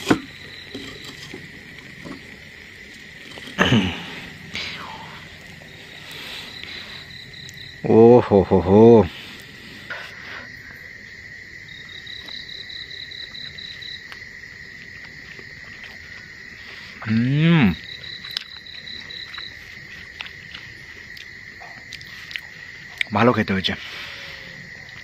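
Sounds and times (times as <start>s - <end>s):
crickets trilling: 0.0s - 25.0s
insect fast pulsed trill: 0.0s - 25.0s.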